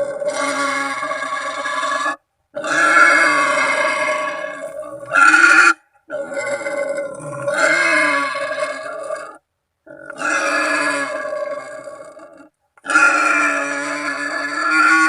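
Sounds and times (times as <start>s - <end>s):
wild boar squealing: 0.0s - 15.0s.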